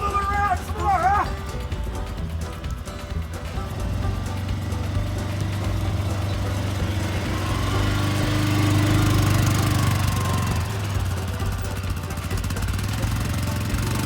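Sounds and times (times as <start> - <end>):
utility vehicle engine running: 0.0 - 14.0.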